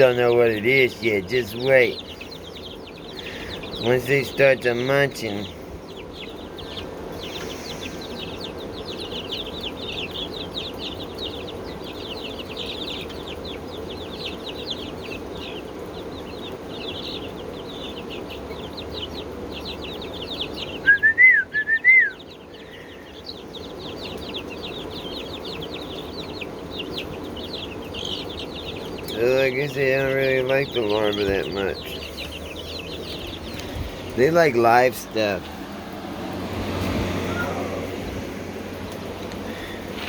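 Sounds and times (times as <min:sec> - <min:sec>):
chickens chirping rapidly: 0:00.0 - 0:40.0.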